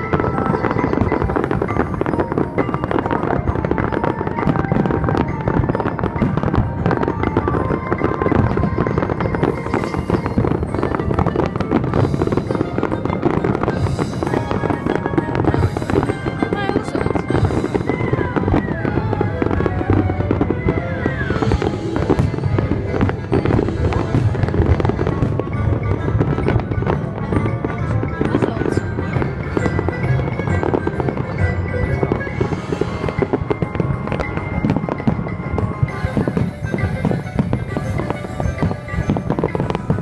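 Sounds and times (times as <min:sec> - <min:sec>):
fireworks crackling and popping: 0:00.0 - 0:40.0
loud show music: 0:00.0 - 0:40.0.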